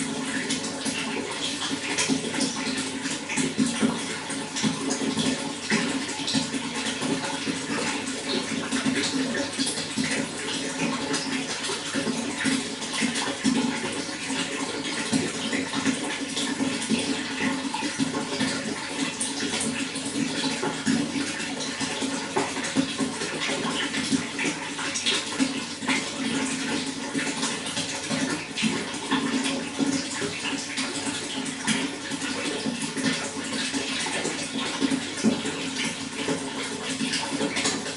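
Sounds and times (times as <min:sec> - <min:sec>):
running water splashing: 0:00.0 - 0:37.9.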